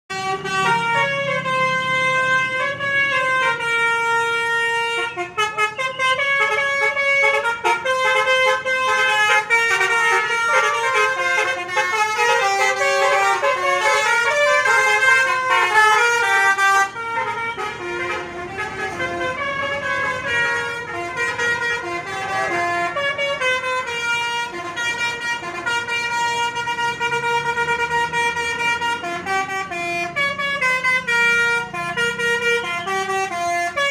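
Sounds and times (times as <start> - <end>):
multi-tone bus horns playing tunes: 0.1 - 33.9.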